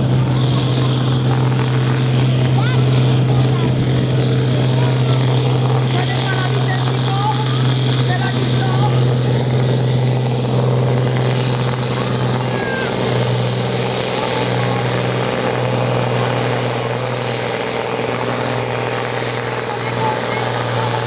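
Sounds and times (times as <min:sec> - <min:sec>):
tractor diesel engine at high revs: 0:00.0 - 0:21.0.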